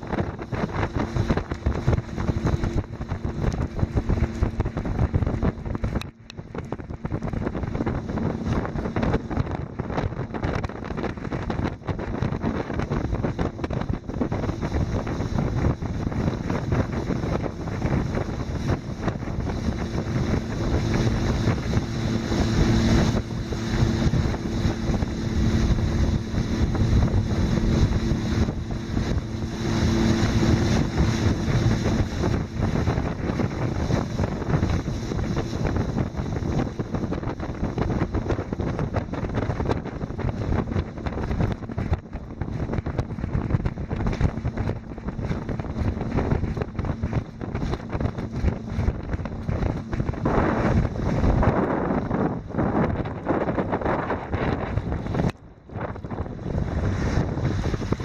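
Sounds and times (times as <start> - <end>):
steady low hum: 0.0 - 58.0
wind buffeting microphone: 0.0 - 58.0.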